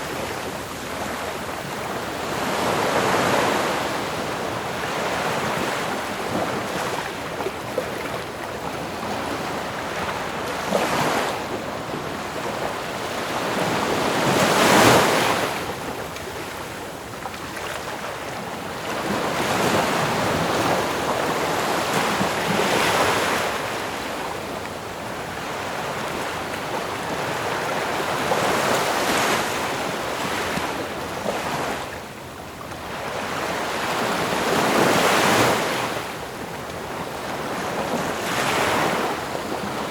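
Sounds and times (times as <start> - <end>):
ocean waves breaking: 0.0 - 31.9, 32.8 - 39.9.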